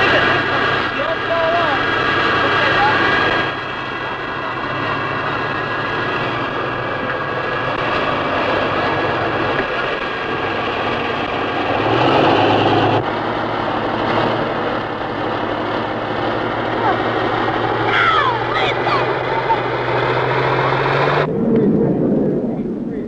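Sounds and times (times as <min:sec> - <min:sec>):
steady engine noise: 0:00.0 - 0:23.0.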